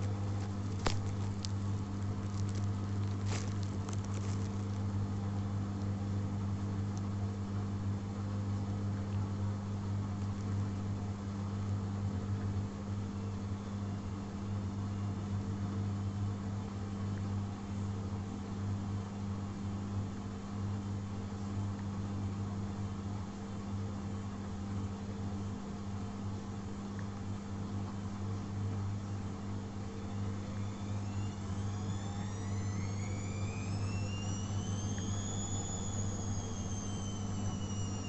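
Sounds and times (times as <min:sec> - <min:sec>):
washing machine spinning hum: 0:00.0 - 0:38.0.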